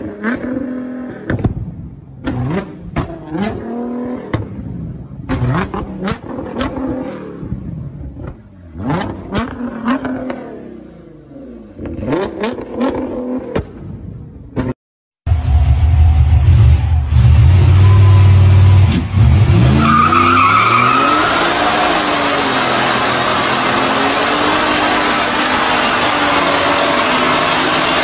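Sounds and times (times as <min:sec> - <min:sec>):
car engine revving: 0:02.2 - 0:14.7, 0:15.3 - 0:28.0.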